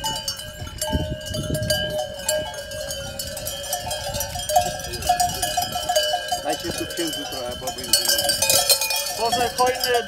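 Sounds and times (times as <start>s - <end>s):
sheep bells clanking: 0.0s - 10.0s.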